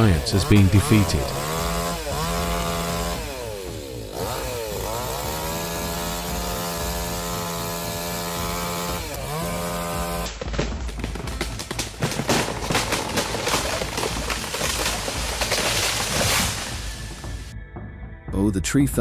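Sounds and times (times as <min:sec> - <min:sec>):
chainsaw running at high revs: 0:00.0 - 0:10.4, 0:11.0 - 0:17.5.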